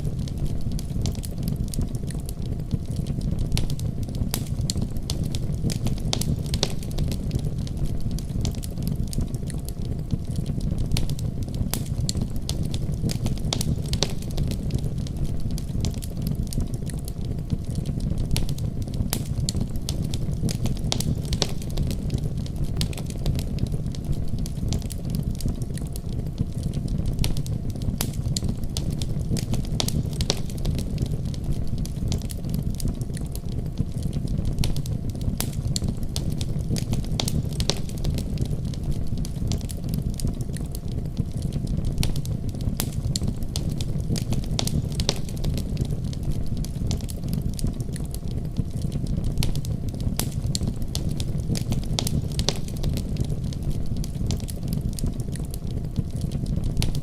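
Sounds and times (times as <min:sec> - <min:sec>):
burning wood popping and crackling: 0:00.0 - 0:57.0
fire flames rumbling: 0:00.0 - 0:57.0.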